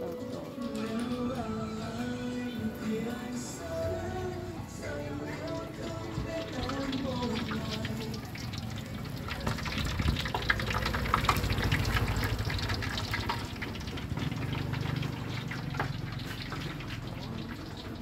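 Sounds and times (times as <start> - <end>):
hot oil sizzling and crackling: 2.3 - 18.0.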